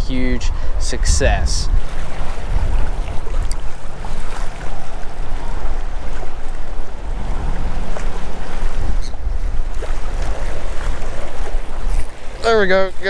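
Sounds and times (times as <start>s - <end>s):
waves washing: 0.0s - 13.0s
wind buffeting microphone: 0.0s - 13.0s.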